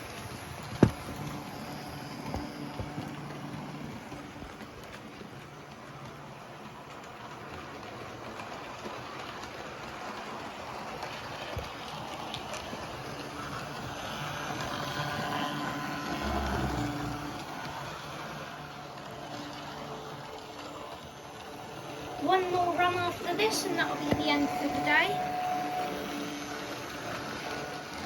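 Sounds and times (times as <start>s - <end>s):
train passing: 0.0s - 28.0s.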